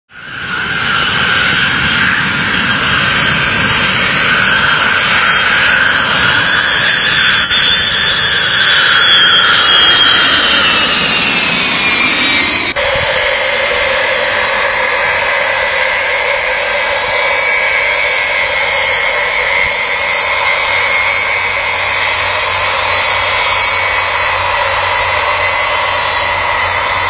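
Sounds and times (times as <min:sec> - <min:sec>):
jet airliner passing overhead: 0:00.1 - 0:27.0.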